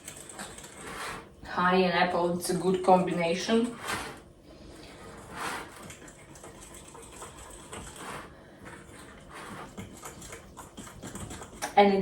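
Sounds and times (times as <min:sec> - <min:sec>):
utensil stirring batter in bowl: 0:00.0 - 0:12.0.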